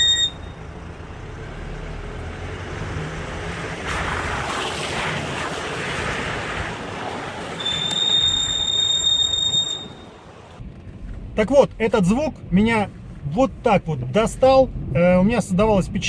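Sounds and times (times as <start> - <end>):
brakes squealing: 0.0 - 16.0
road and tyre rumble: 0.0 - 16.0.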